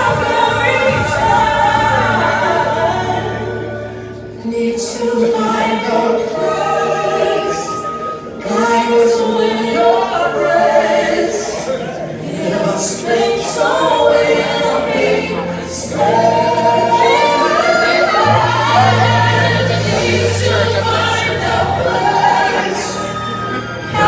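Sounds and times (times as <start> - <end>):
music: 0.0 - 24.0
voices singing long wavering notes: 0.0 - 24.0.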